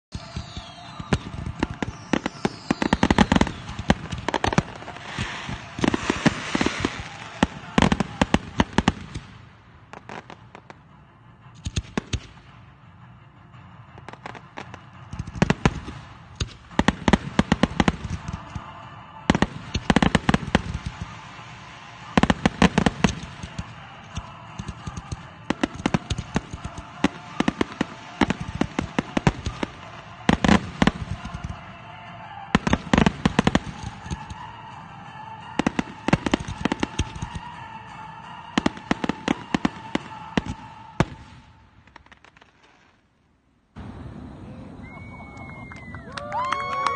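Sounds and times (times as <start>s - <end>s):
fireworks bursting: 0.1s - 46.9s.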